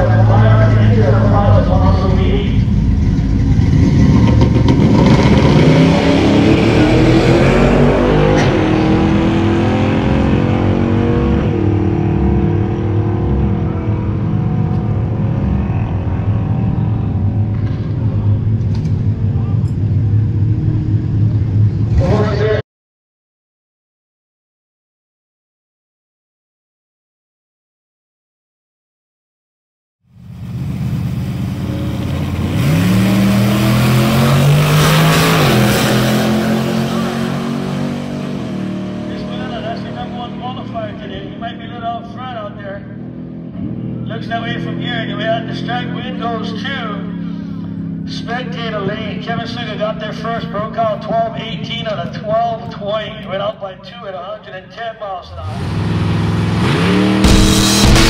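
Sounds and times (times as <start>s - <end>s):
drag racing engine accelerating: 0.0s - 22.5s, 30.2s - 52.8s, 55.3s - 58.0s.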